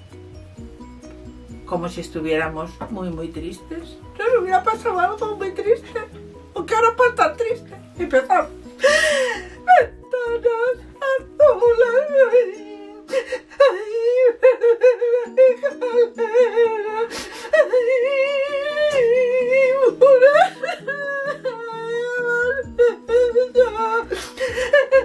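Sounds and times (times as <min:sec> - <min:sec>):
soft background music: 0:00.0 - 0:25.0
woman pretend crying and wailing: 0:04.2 - 0:25.0.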